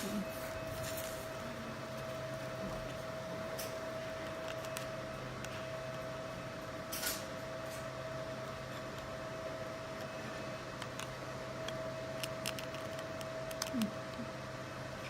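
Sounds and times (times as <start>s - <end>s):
laser marking machine whine: 0.0s - 15.0s.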